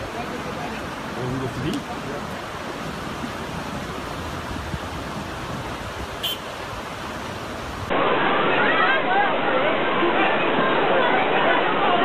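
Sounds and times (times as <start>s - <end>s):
rushing flood water: 0.0s - 12.0s.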